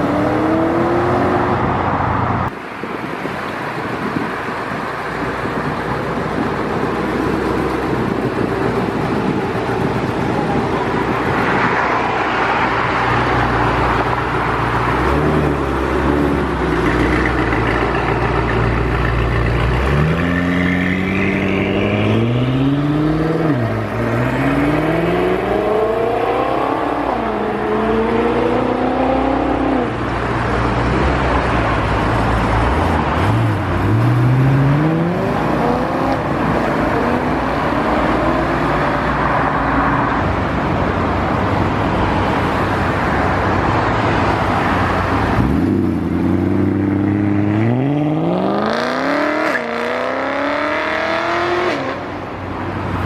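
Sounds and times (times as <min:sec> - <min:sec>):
car engines accelerating hard: 0:00.0 - 0:53.0.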